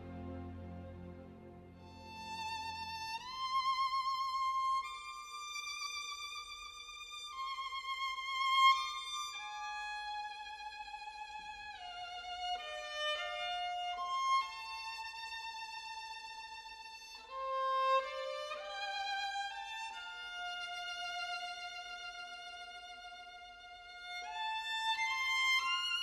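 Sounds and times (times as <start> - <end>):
violins playing slow classical music: 0.0 - 26.0.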